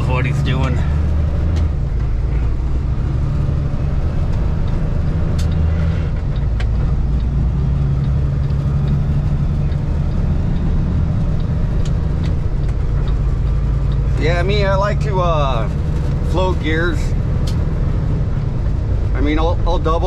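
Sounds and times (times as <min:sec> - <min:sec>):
road noise: 0:00.0 - 0:20.0
truck diesel engine droning: 0:00.0 - 0:20.0.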